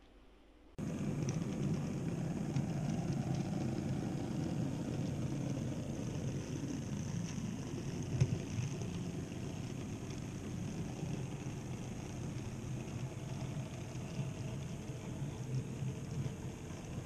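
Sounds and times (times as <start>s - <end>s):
model train rumbling on track: 0.8s - 17.0s.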